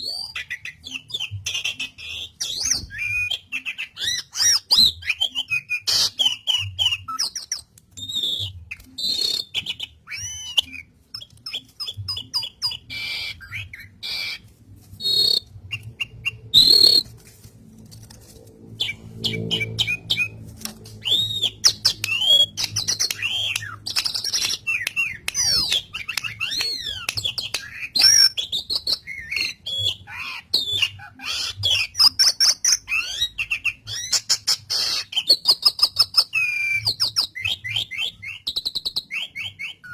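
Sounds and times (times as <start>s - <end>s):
starling singing: 0.0s - 17.1s, 18.6s - 39.9s.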